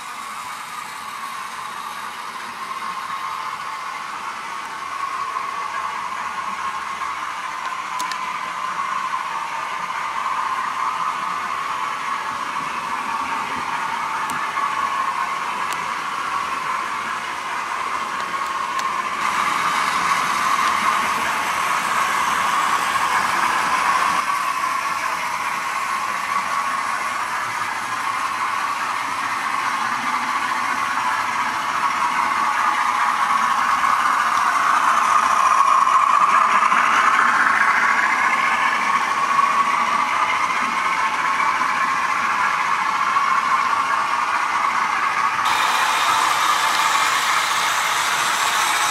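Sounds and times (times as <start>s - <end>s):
model railway motors whirring: 0.0s - 48.9s.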